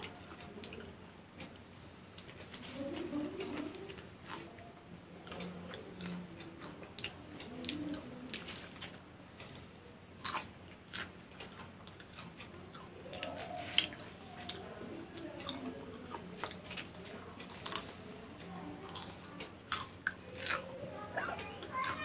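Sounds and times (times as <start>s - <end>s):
popcorn chewing and crunching: 0.0s - 22.0s.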